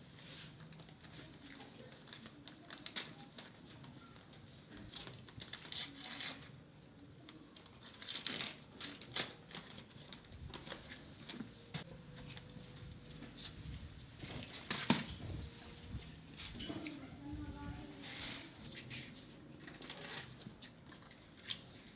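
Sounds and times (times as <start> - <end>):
crinkling and rustling: 0.4 - 21.9.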